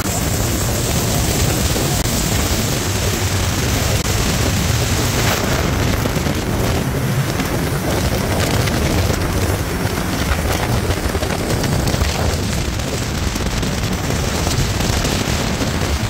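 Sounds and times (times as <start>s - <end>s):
boat engine running loud: 0.0s - 16.0s
wind on microphone: 0.0s - 16.0s.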